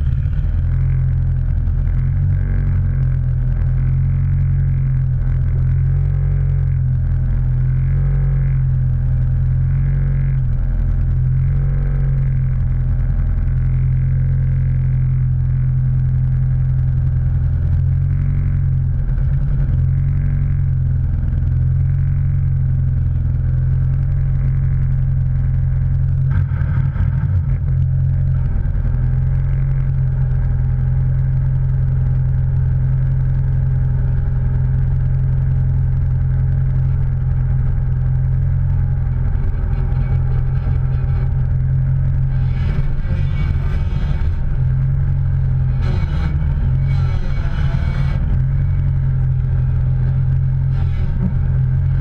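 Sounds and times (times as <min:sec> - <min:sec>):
vehicle engine droning: 0:00.0 - 0:52.0.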